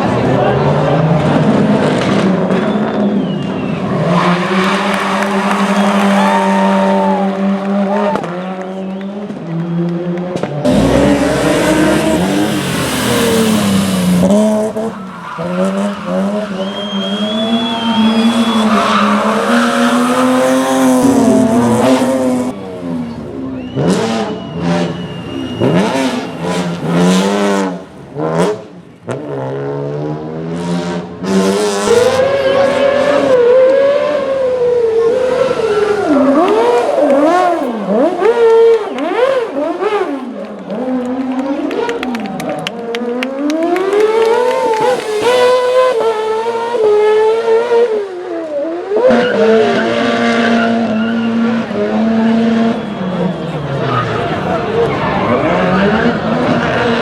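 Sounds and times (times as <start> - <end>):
rally car engine accelerating: 0.0 - 57.0.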